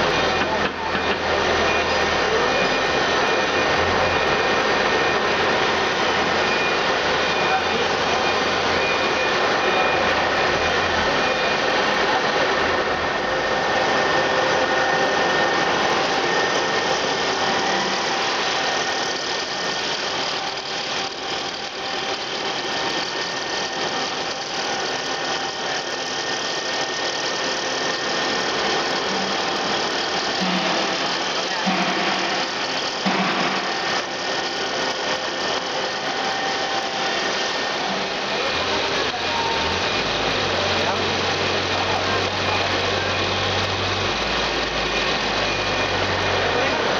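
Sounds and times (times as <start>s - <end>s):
machine whirring with whine: 0.0s - 46.9s.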